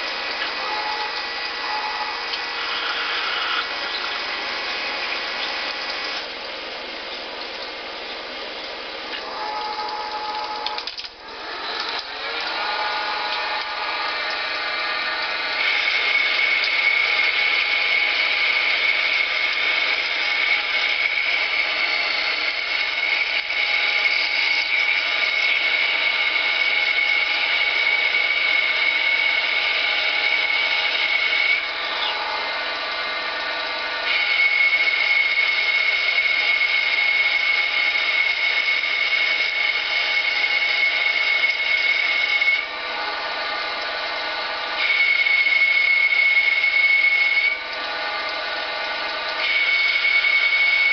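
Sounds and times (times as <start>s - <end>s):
lathe high-pitched whine: 0.0s - 7.0s, 9.2s - 50.9s
machine hum: 0.0s - 50.9s.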